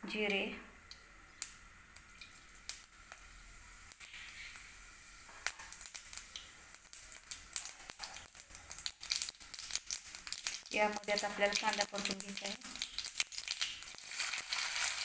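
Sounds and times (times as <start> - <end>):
seeds popping in hot oil: 0.2 - 15.0.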